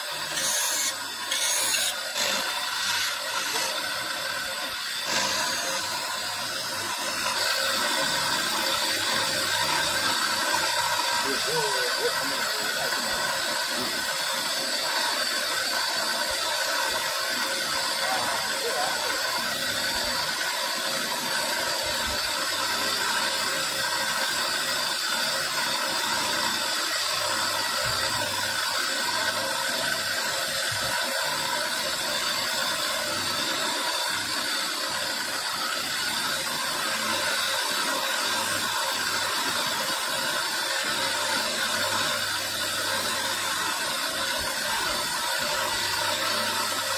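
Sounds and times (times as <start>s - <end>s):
grinding bit carving stone: 0.0s - 46.9s.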